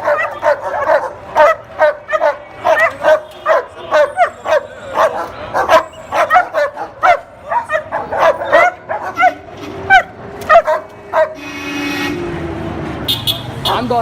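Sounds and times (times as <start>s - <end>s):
dog barking: 0.0s - 11.4s.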